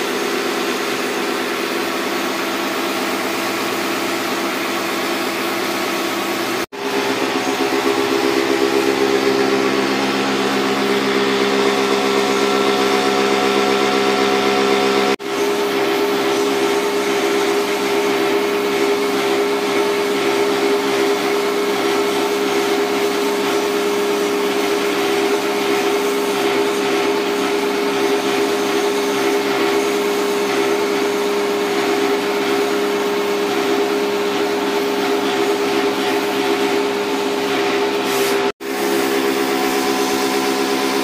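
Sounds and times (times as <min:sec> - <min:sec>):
pressure washer motor humming: 0:00.0 - 0:41.0.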